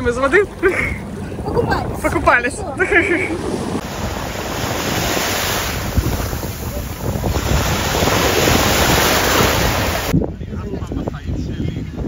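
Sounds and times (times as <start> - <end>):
surf washing on shore: 0.0 - 10.2
wind buffeting microphone: 0.0 - 12.0.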